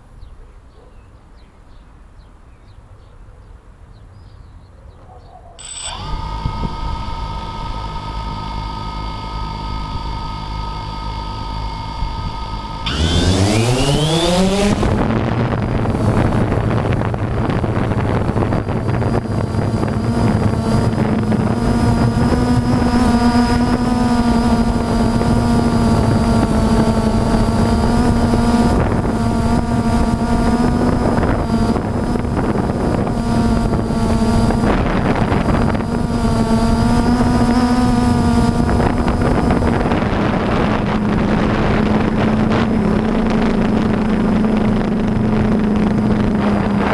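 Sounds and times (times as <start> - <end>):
quadcopter motors buzzing whine: 5.6 - 46.9
wind noise on microphone: 5.6 - 46.9.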